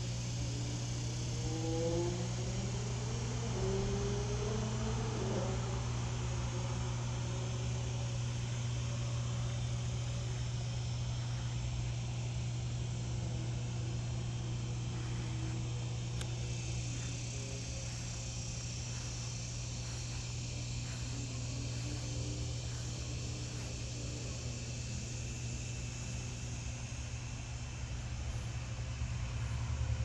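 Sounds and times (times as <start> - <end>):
insects chirping: 0.0 - 30.0
low hum: 0.2 - 30.0.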